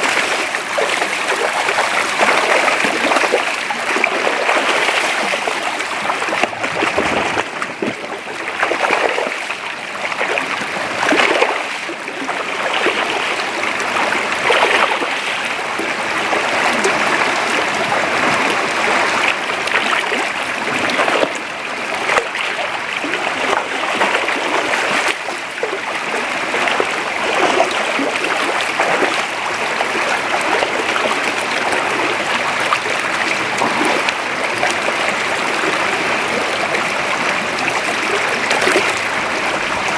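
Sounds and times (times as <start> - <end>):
creek water running: 0.0 - 39.9
water splashing: 0.0 - 39.9.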